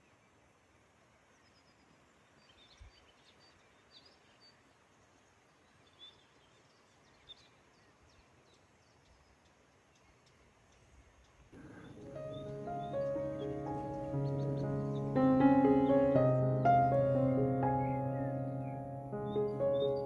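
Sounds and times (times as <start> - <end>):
background hiss: 0.0 - 20.0
faint birds chirping: 0.0 - 20.0.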